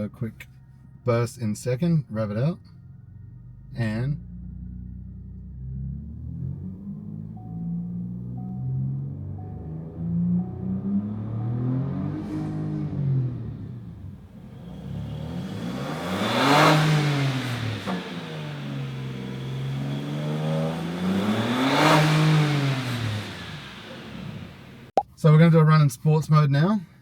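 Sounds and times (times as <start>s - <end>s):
engine revving through exhaust: 3.0s - 24.9s.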